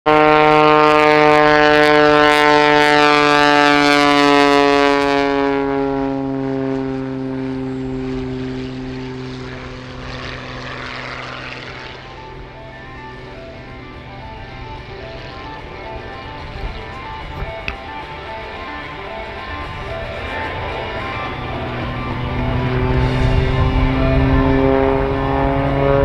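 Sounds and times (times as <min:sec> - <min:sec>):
propeller plane engine drone: 0:00.1 - 0:26.0.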